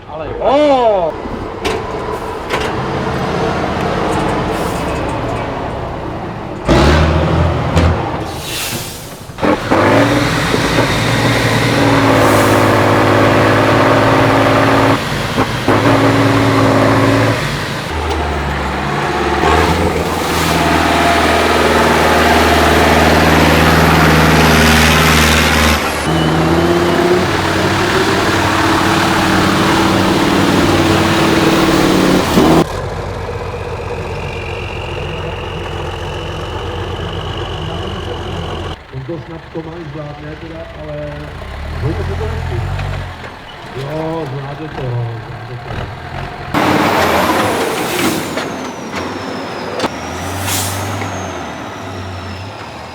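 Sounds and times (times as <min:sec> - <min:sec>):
heavy truck engines running hard: 0:00.0 - 0:52.9.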